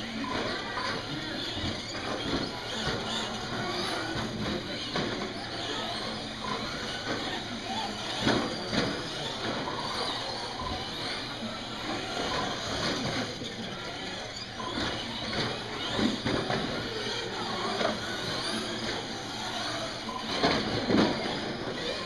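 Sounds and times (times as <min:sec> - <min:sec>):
rc truck motors whining: 0:00.0 - 0:22.0.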